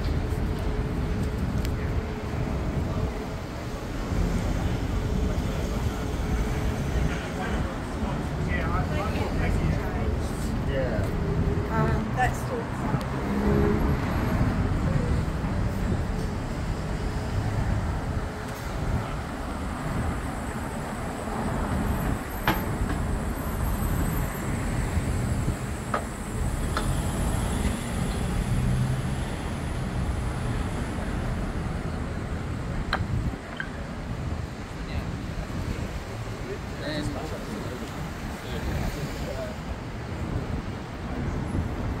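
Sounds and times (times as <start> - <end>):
passing vehicles rumbling: 0.0 - 42.0.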